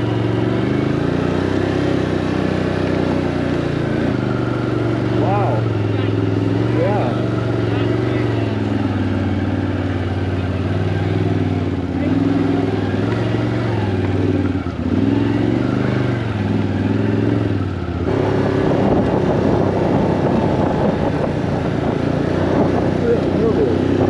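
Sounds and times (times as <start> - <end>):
motor vehicle engine running: 0.0 - 24.0
rough noisy engine sound: 0.0 - 24.0.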